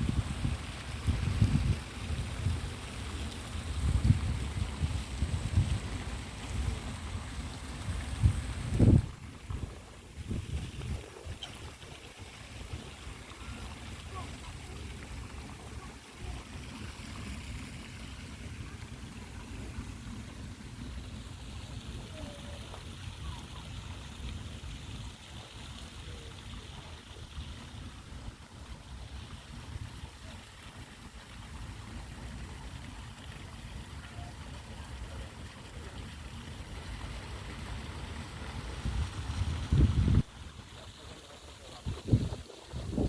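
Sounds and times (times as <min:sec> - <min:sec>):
stream water flowing: 0:00.0 - 0:43.0.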